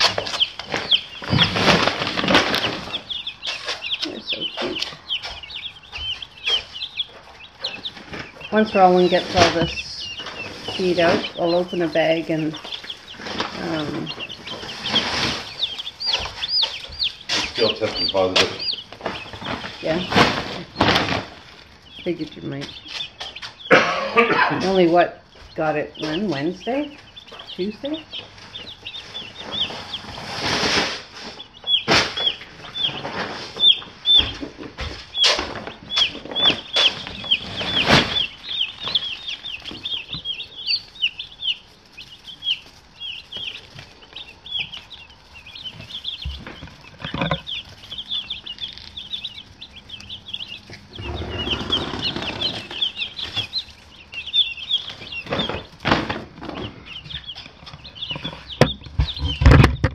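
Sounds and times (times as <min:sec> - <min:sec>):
rustling: 0:00.0 - 0:23.7, 0:24.6 - 0:59.9
chicks peeping: 0:00.0 - 0:59.9.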